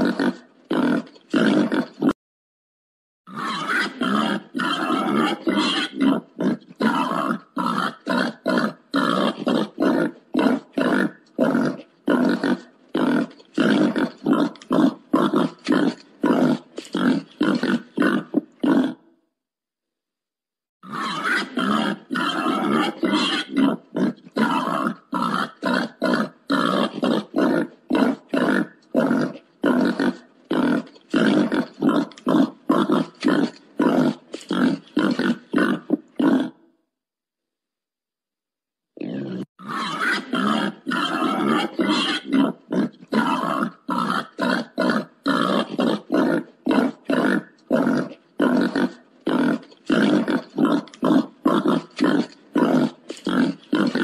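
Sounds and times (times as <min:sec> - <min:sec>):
wild boar grunting: 0:00.0 - 0:02.2, 0:03.3 - 0:19.1, 0:20.8 - 0:36.7, 0:39.0 - 0:54.0.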